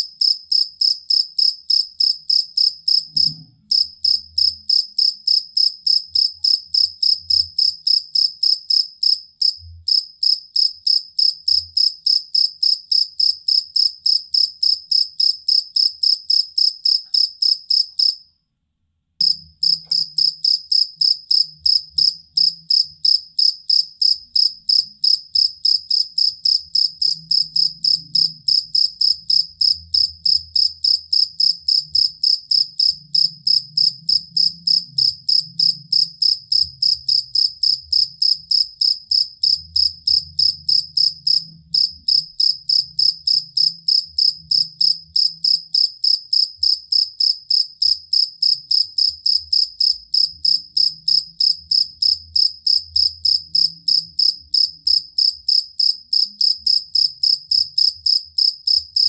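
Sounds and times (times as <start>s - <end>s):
cricket chirping: 0.0s - 18.3s, 19.2s - 59.0s.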